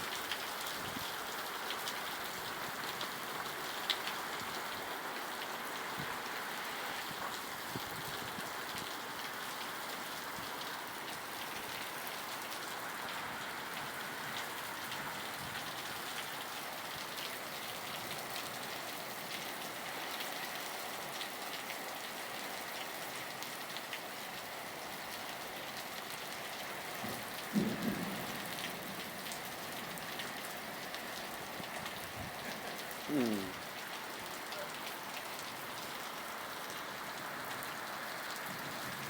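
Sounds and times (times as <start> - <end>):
rain pouring: 0.0 - 39.0
raindrops ticking on surfaces: 0.0 - 39.0.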